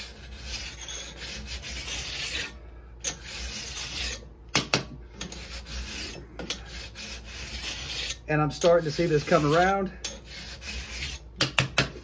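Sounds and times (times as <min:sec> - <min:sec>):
file rasping on metal: 0:00.0 - 0:04.3, 0:05.2 - 0:11.6.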